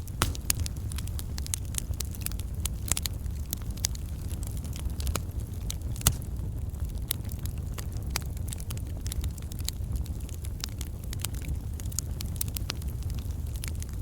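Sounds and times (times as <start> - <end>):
burning wood crackling and popping: 0.0 - 14.0
low rumble of flame: 0.0 - 14.0.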